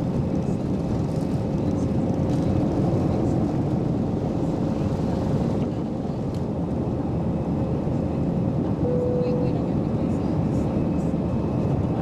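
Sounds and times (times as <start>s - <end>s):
jet engines and airflow rushing: 0.0s - 12.0s.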